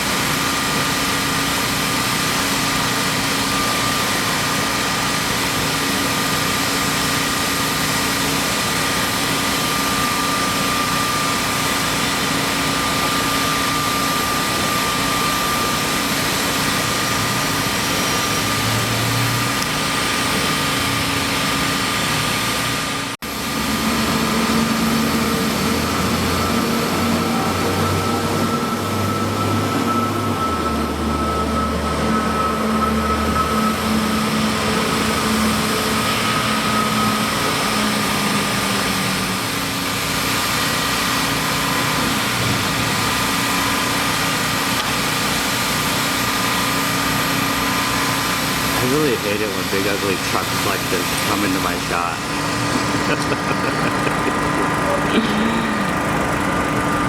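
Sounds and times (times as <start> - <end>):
mechanical engine noise: 0.0 - 57.0.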